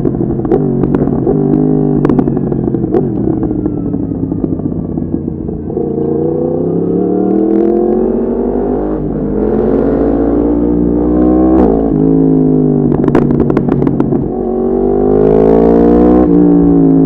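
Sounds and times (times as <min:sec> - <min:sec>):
motorcycle engine revving: 0:00.0 - 0:17.0
wind noise: 0:00.0 - 0:17.0.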